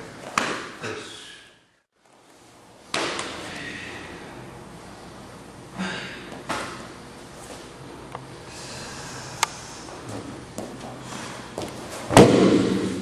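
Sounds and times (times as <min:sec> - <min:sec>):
steady room noise: 0:00.0 - 0:13.0.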